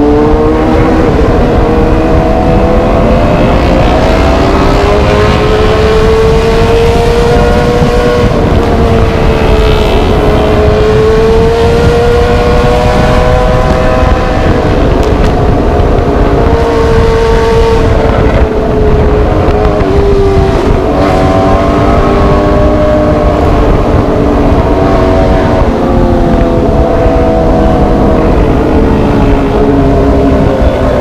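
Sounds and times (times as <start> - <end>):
heavy low rumble: 0.0 - 31.0
motorcycle engine running: 0.0 - 31.0.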